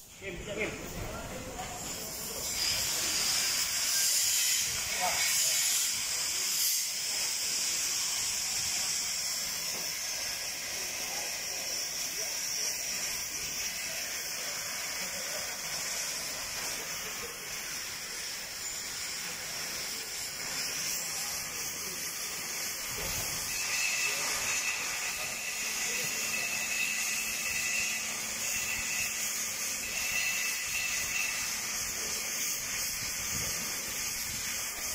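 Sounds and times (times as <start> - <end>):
cutting torch hissing: 0.0 - 34.9.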